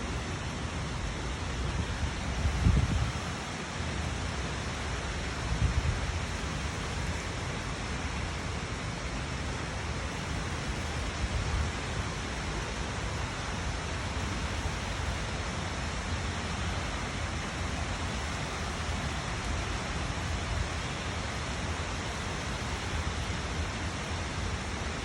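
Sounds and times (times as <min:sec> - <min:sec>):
steady rainfall: 0:00.0 - 0:25.0.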